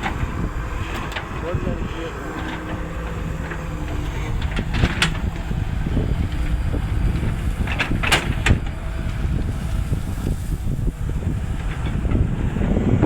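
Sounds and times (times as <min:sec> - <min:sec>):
diesel engine low rumble: 0:00.0 - 0:13.0.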